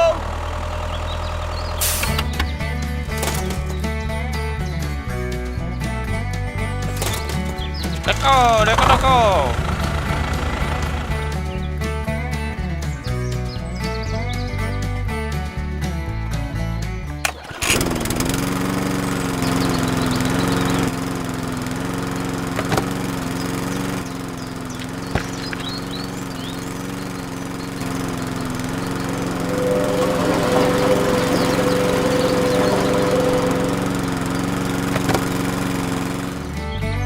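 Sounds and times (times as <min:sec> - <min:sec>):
small engine running: 0:00.0 - 0:05.6, 0:06.2 - 0:12.3, 0:17.2 - 0:37.0.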